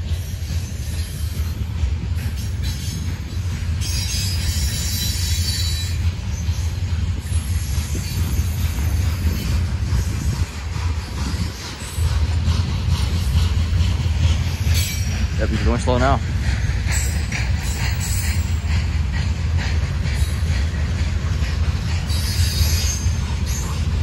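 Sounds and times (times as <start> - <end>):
freight train rumbling: 0.0 - 24.0
wheels squealing on rail: 0.0 - 24.0.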